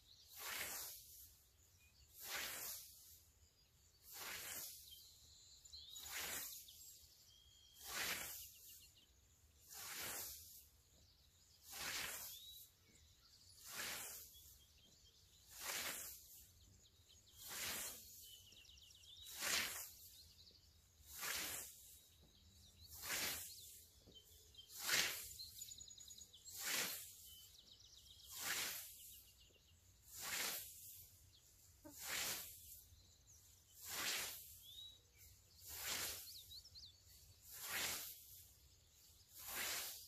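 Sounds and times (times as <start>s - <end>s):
scythe swishing through grass: 0.1s - 20.3s, 20.9s - 27.6s, 28.2s - 40.0s.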